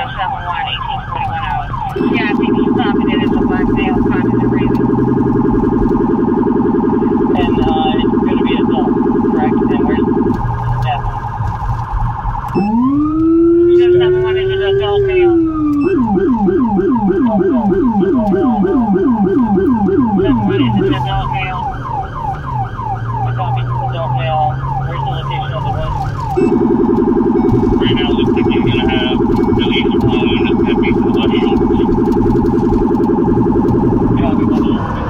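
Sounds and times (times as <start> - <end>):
deep low-frequency siren yelp: 0.0 - 35.0
police siren yelping: 0.0 - 35.0
rapid siren warble: 0.0 - 35.0.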